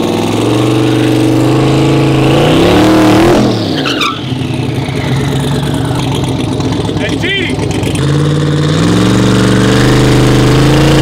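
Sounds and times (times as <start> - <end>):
truck engine passing by: 0.0 - 11.0.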